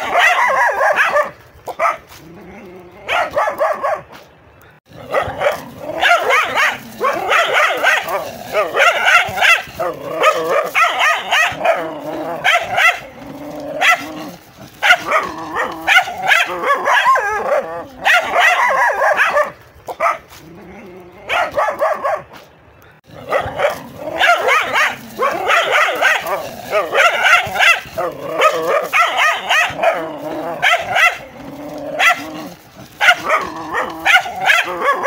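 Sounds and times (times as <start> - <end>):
dogs barking fiercely: 0.0 - 4.3, 4.9 - 35.0.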